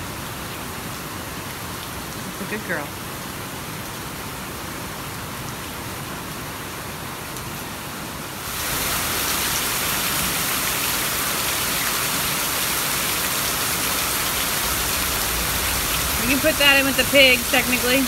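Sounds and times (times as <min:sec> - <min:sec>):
heavy rain downpour: 0:00.0 - 0:18.0.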